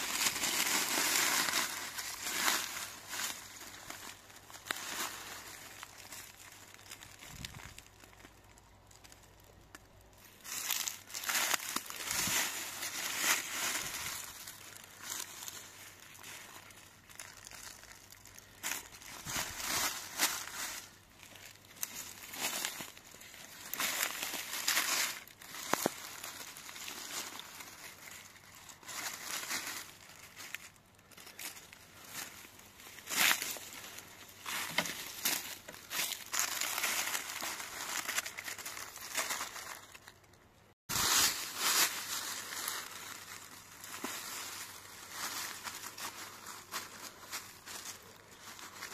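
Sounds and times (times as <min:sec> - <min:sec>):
dry leaves rustling and crackling: 0:00.0 - 0:48.9.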